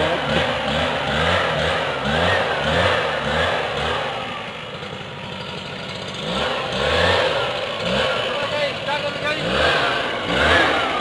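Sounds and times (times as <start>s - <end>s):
small petrol engine running: 0.0s - 11.0s.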